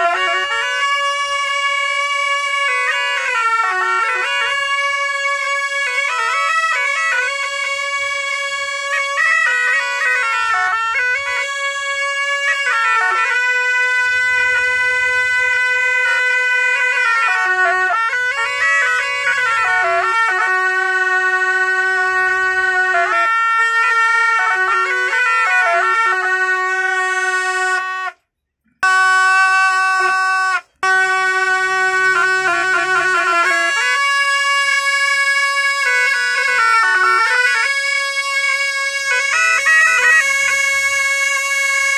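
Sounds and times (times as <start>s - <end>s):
double-reed shawms playing melody: 0.0s - 41.9s.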